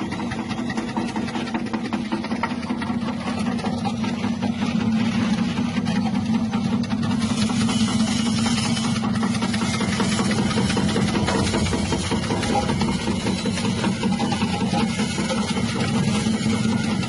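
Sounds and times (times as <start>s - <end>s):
electric slicing machine running: 0.0s - 17.0s.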